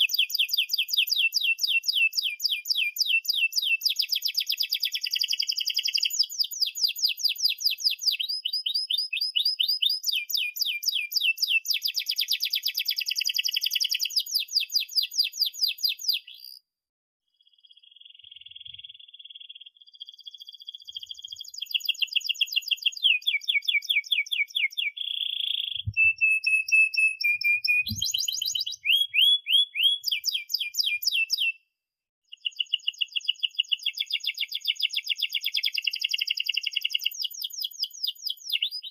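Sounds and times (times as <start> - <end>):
canary singing trills: 0.0 - 16.6, 17.4 - 31.6, 32.3 - 38.9.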